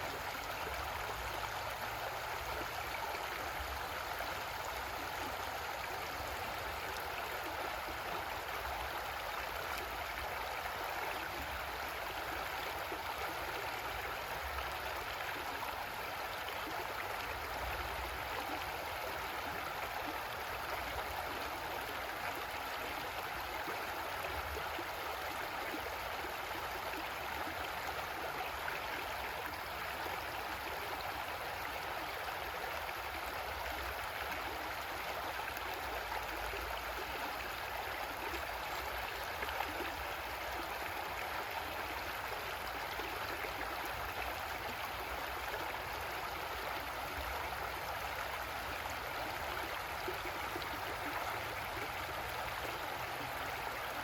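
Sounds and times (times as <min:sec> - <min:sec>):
creek water flowing over rocks: 0:00.0 - 0:54.0.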